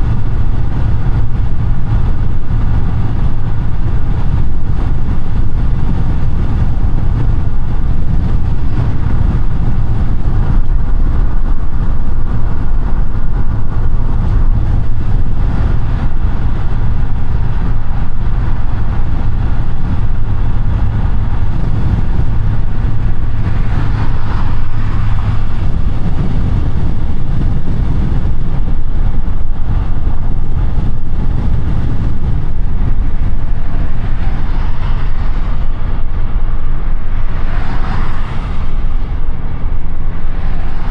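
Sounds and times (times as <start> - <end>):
car engine hum: 0.0 - 40.9
road and tyre noise: 0.0 - 40.9.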